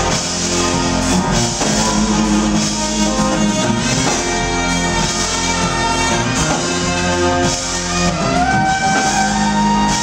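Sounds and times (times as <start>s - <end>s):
smooth jazz band playing: 0.0s - 10.0s.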